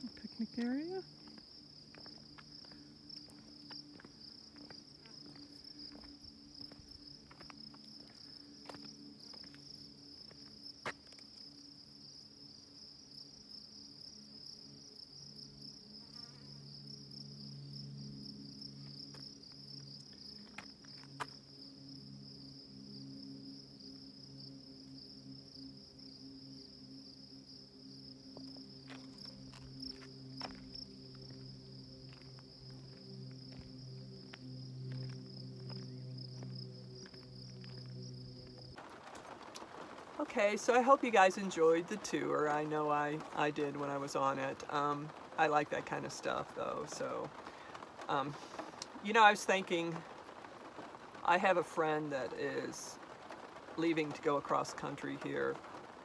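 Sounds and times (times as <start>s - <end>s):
insects buzzing: 0.0s - 51.5s.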